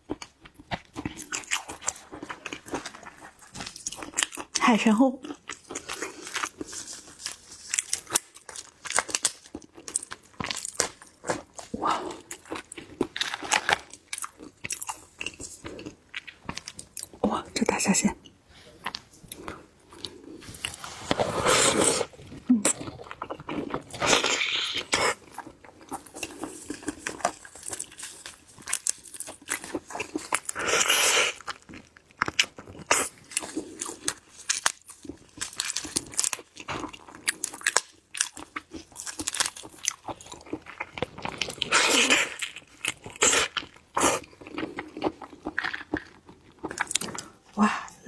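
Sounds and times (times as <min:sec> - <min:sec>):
crunchy bites and wet chewing: 0:05.2 - 0:17.2, 0:18.8 - 0:47.5.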